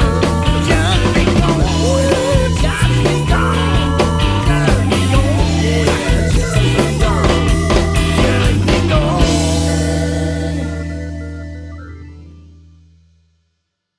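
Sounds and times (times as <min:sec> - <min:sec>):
drums: 0:00.0 - 0:12.2
electric guitar: 0:00.0 - 0:13.0.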